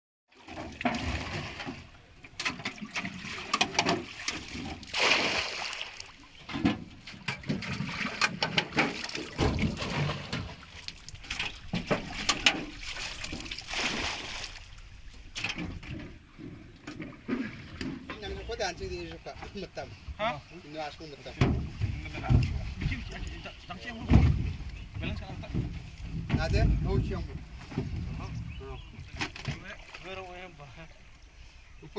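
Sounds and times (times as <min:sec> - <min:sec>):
water sloshing and splashing: 0:00.3 - 0:31.4.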